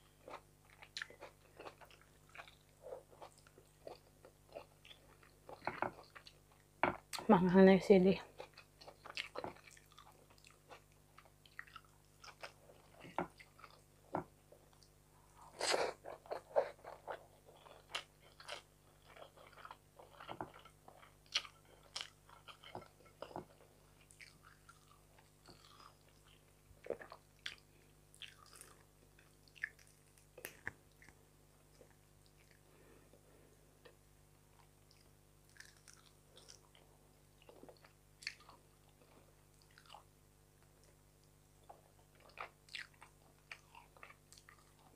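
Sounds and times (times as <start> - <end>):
person chewing food: 0.0 - 7.2, 8.4 - 33.2, 33.8 - 44.9.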